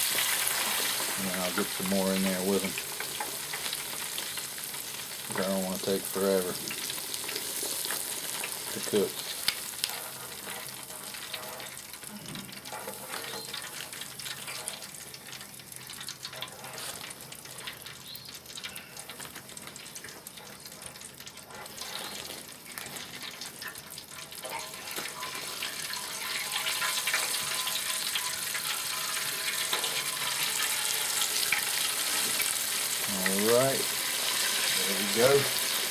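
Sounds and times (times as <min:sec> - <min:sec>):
chicken frying in oil: 0:00.0 - 0:35.9.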